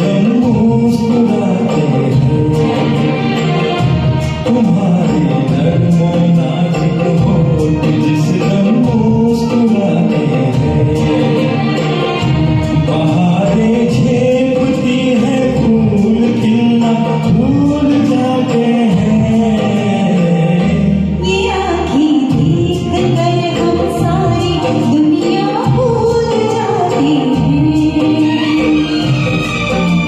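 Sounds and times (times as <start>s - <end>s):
person singing: 0.0s - 30.0s
recorded backing track: 0.0s - 30.0s.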